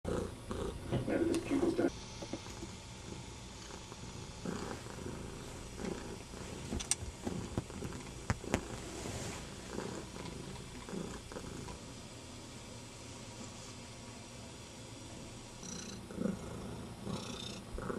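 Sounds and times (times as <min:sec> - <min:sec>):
cat purring: 0:00.1 - 0:17.9.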